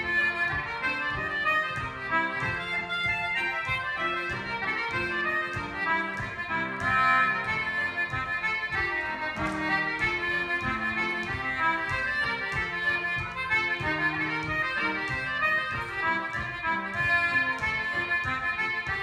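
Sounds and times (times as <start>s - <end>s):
piano chords accompaniment: 0.0s - 19.0s.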